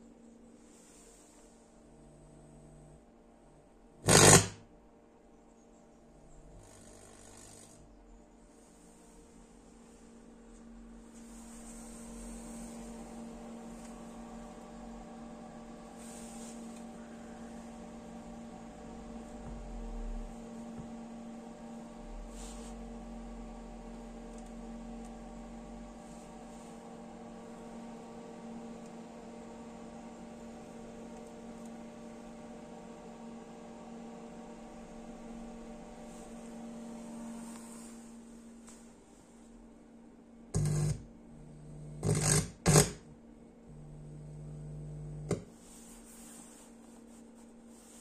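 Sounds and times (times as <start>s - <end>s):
power supply electrical hum: 0.0s - 48.0s.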